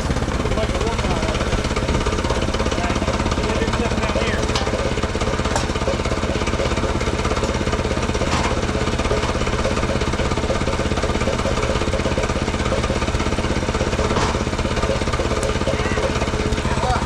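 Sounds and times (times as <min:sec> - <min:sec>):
sawmill gasoline engine running: 0:00.0 - 0:17.0.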